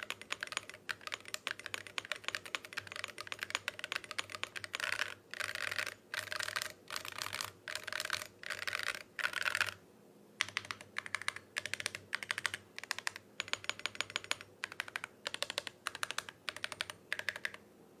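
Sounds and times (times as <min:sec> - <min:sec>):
mechanical keyboard typing clicks: 0:00.0 - 0:09.8, 0:10.4 - 0:17.6.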